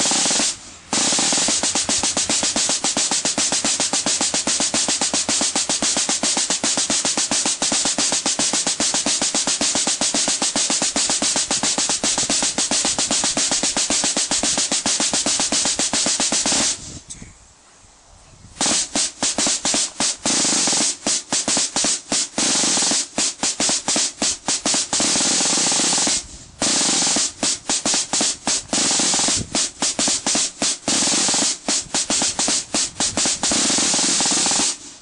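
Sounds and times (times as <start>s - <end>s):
snare drums playing cadence: 0.0s - 16.9s, 18.6s - 35.0s.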